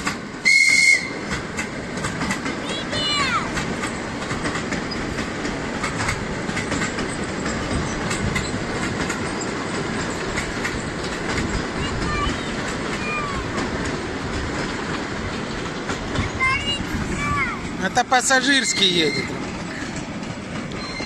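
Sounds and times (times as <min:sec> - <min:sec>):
train wheels rumbling on rails: 0:00.0 - 0:21.0
wheels clacking over rail joints: 0:00.0 - 0:21.0.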